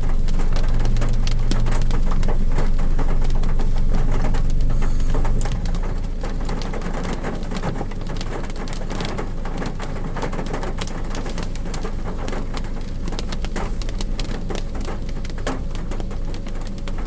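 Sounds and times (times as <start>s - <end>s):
rain on a car roof: 0.0s - 17.0s.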